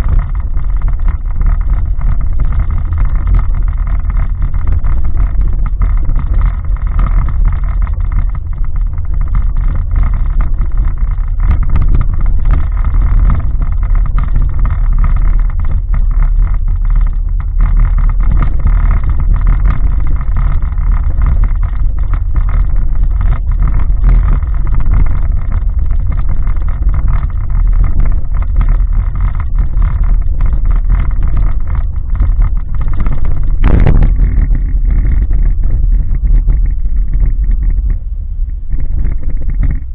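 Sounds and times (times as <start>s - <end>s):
small rattles and knocks: 0.0s - 39.9s
tyre and engine rumble: 0.0s - 39.9s.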